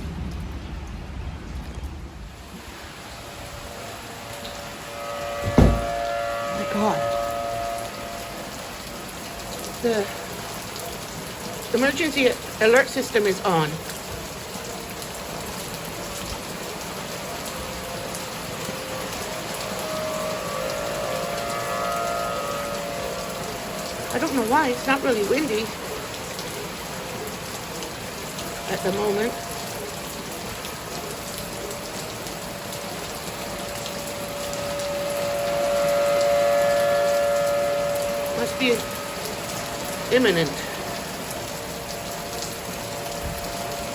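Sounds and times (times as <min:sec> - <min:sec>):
steady rain falling: 0:00.0 - 0:43.9
distant warning siren: 0:02.6 - 0:43.9.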